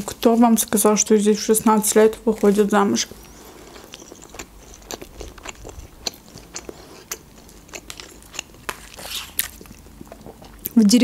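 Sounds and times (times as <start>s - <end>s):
chewing food: 1.6s - 10.9s.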